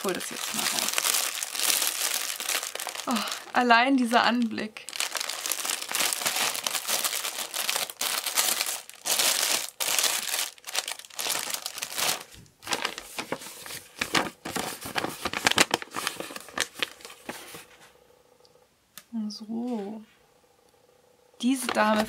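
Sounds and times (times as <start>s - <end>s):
plastic cover crinkling: 0.0s - 17.8s, 21.6s - 22.0s.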